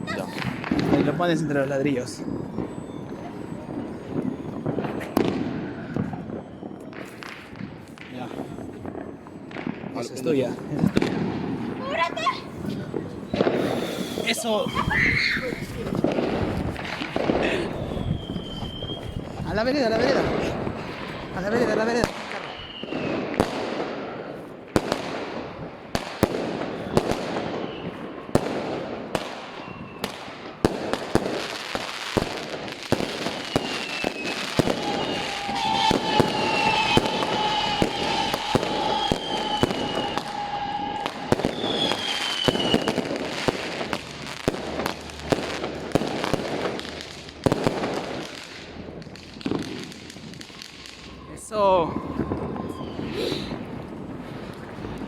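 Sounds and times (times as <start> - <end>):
firecrackers banging and crackling: 0.0 - 55.0
steady firework whistle: 0.0 - 55.0
whistling fireworks gliding down: 0.0 - 55.0.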